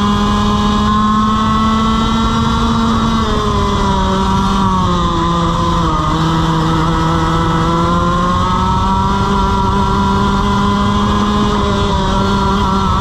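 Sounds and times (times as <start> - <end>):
kart engine under load: 0.0 - 13.0.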